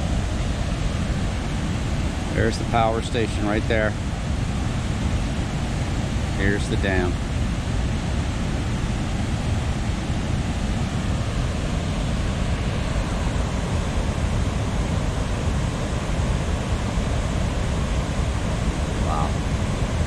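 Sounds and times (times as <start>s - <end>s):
water rushing over dam: 0.0s - 20.0s.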